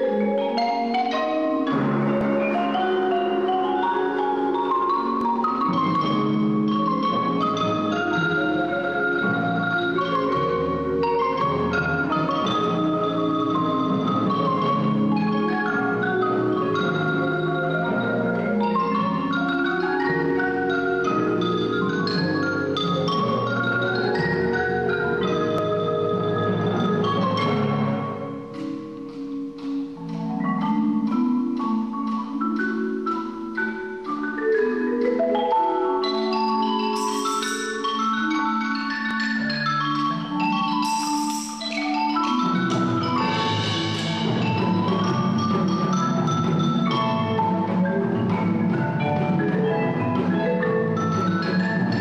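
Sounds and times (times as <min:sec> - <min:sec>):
marimba percussion ensemble: 0:00.0 - 0:52.0.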